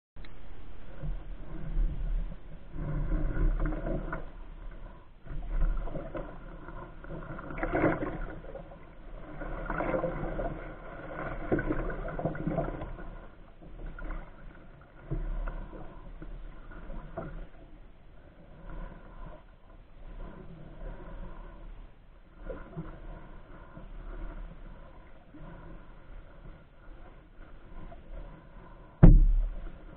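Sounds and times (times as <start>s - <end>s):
paddle strokes through water: 0.2s - 29.9s
water gurgling along hull: 0.2s - 29.9s.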